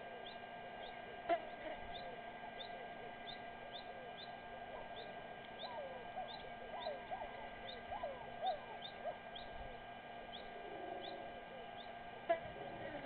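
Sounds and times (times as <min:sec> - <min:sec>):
birds whistling: 0:00.2 - 0:13.0.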